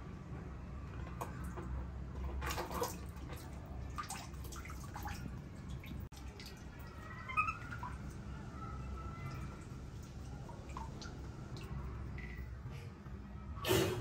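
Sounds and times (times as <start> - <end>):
water splashing and dripping: 0.9 - 12.6.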